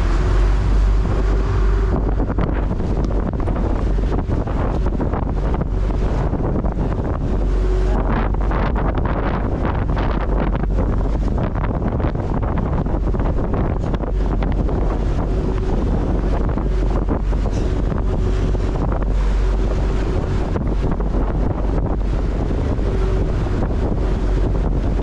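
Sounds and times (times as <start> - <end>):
water splashing along hull: 0.0 - 25.0
wind buffeting microphone: 0.0 - 25.0.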